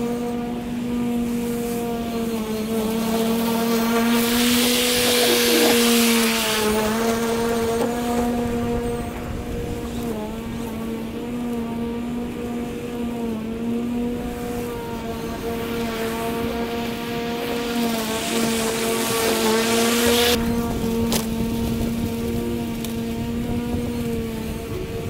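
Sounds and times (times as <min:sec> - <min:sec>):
electric lawn mower humming: 0:00.0 - 0:25.0
mower cutting grass: 0:00.0 - 0:25.0.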